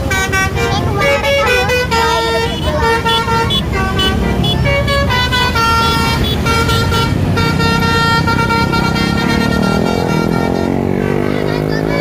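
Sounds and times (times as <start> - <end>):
bus engine rumble: 0.0 - 12.0
multi-tone bus horn: 0.0 - 12.0.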